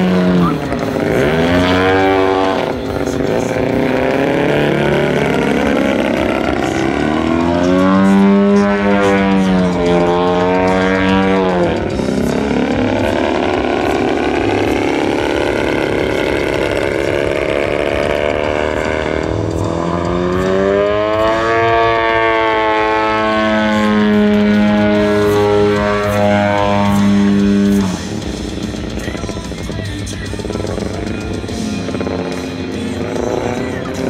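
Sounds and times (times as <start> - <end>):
model plane engine droning: 0.0 - 34.0.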